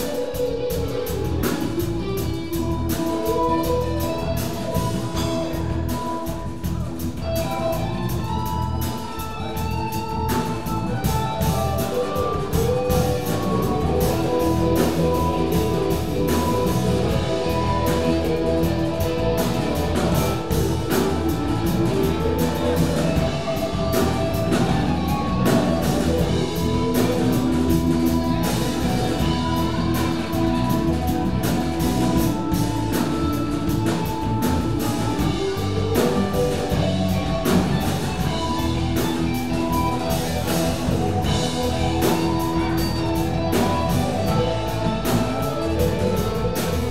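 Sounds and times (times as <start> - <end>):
bass guitar: 0.0 - 46.9
drum kit and cymbals: 0.0 - 46.9
electric guitars: 0.0 - 46.9
keyboard: 0.0 - 46.9.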